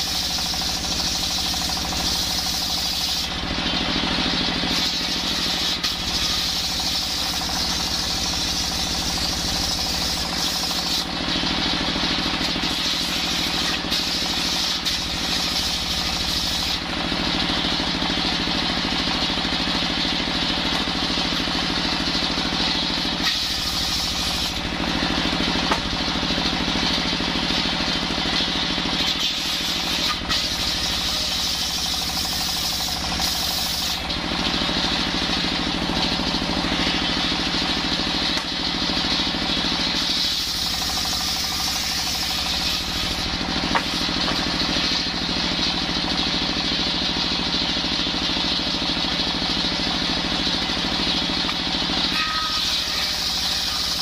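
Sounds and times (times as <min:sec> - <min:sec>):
circular saw cutting wood: 0:00.0 - 0:47.4, 0:50.1 - 0:54.0
diesel engine running: 0:00.0 - 0:54.0.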